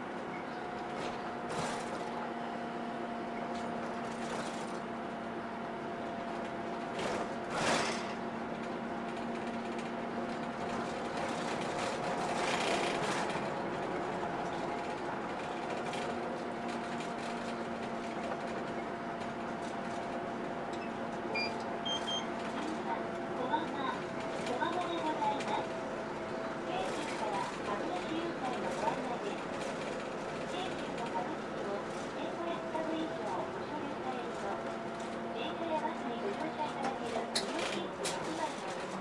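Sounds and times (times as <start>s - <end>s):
bus engine drone with whine: 0.0s - 39.0s
road noise: 0.0s - 39.0s.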